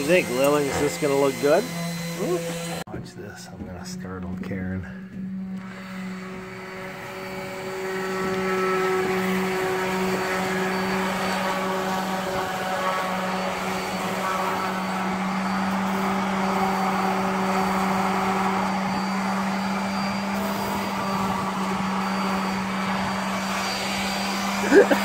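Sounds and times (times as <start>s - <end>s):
electric power sander on wood: 0.0s - 25.0s.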